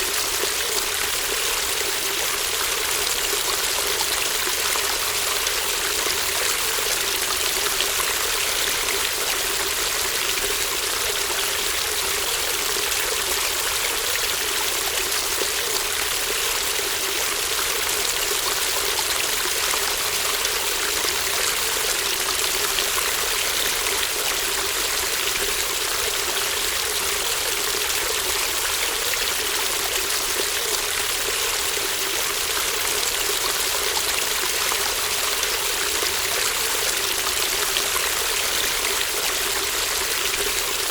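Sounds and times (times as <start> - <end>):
brook babbling: 0.0 - 40.9.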